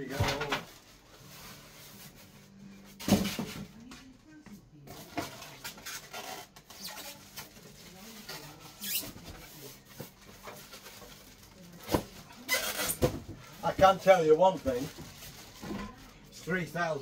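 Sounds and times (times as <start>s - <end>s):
cardboard and styrofoam rustling: 0.0s - 3.8s, 4.9s - 17.0s.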